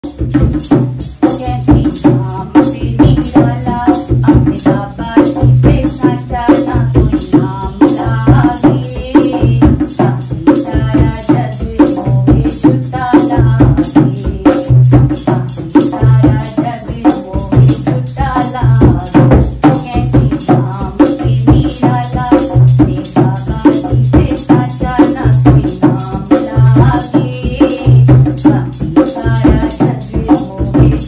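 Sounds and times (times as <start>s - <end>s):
rhythmic percussion beat: 0.0s - 31.0s
person singing: 0.8s - 31.0s.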